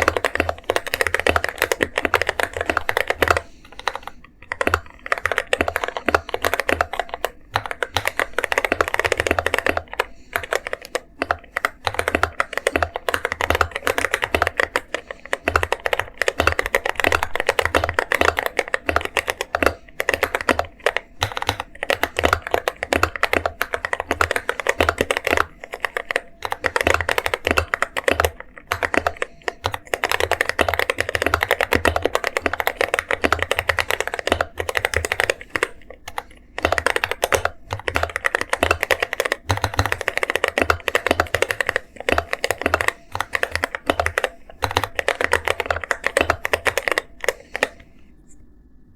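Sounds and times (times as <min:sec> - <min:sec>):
fast mechanical keyboard typing: 0:00.0 - 0:48.0.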